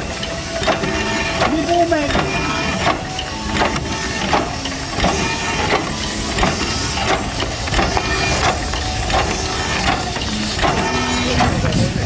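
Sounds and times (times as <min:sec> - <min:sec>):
steam engine knocking: 0:00.0 - 0:12.0
steam hissing: 0:00.0 - 0:12.0.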